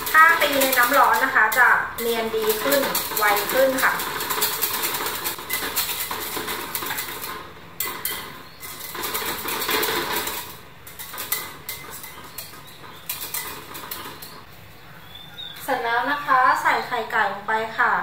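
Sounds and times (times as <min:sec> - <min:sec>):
whisk scraping against glass bowl: 0:00.0 - 0:14.5.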